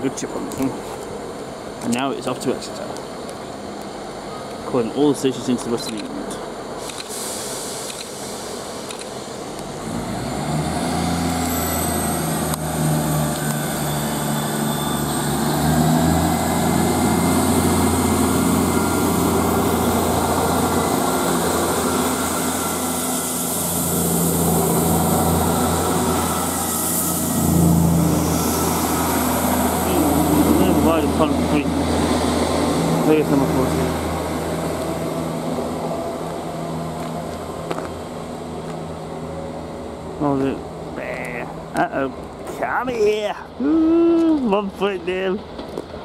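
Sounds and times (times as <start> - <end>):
diesel train engines droning: 0.0 - 46.0.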